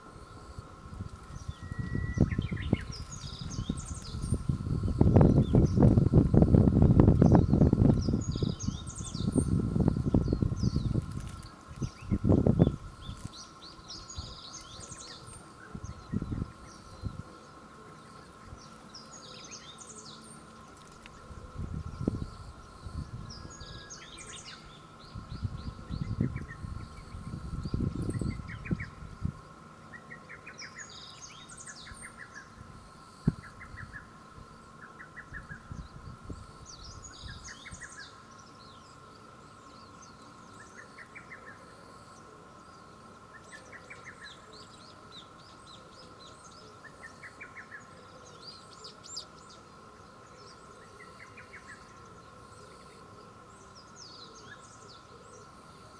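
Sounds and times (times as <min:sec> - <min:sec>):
steady high hum: 0:00.0 - 0:55.9.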